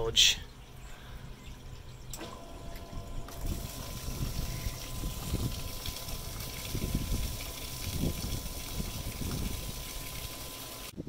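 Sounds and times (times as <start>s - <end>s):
pump running with hum: 0.0s - 11.0s
water jet splashing: 1.6s - 11.0s.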